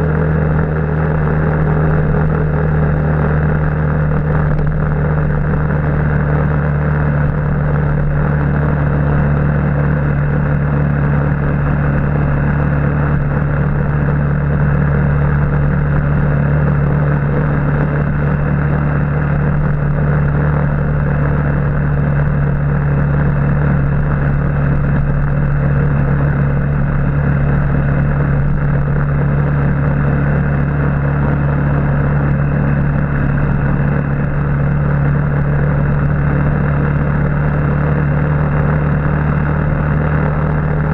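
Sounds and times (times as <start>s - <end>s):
motorbike engine running steadily: 0.0s - 40.9s.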